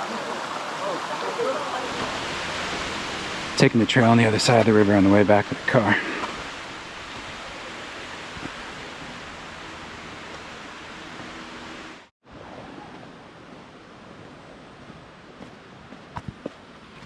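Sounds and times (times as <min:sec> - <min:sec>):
creek rushing: 0:00.0 - 0:15.4.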